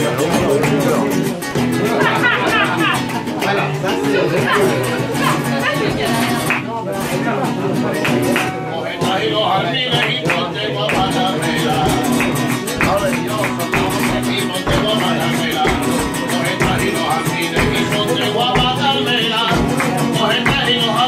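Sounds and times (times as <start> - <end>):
hand-clapping: 0.0 - 3.8, 4.5 - 6.7, 8.0 - 8.6, 9.9 - 21.0
acoustic guitar flamenco: 0.0 - 21.0.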